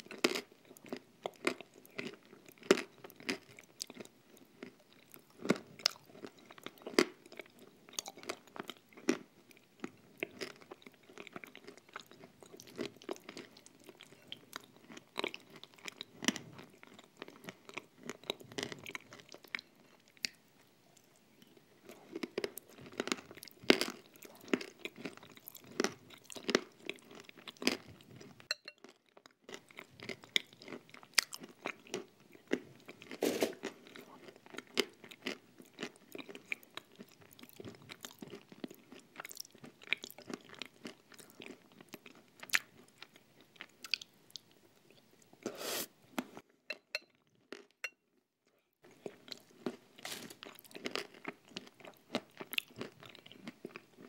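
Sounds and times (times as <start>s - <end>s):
crunchy chewing: 0.0s - 20.4s, 21.0s - 45.0s, 48.9s - 54.0s.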